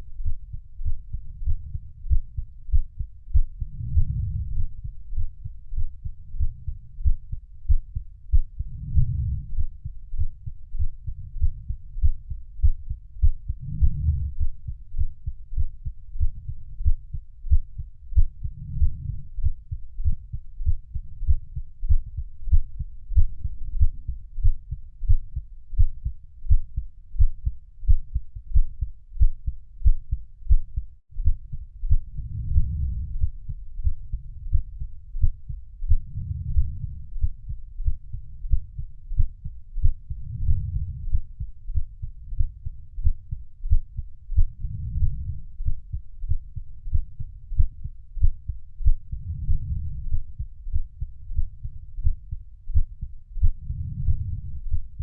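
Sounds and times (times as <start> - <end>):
heartbeat thumps: 0.2 - 55.0.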